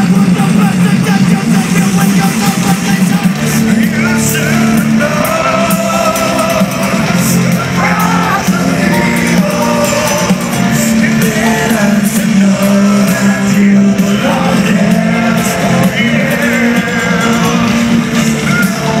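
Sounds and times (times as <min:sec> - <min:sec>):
live rock band with singing: 0:00.0 - 0:19.0.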